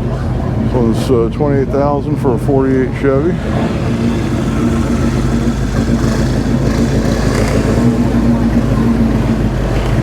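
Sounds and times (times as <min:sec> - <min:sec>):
engine humming steadily: 0:00.0 - 0:10.0
outdoor background noise: 0:00.0 - 0:10.0.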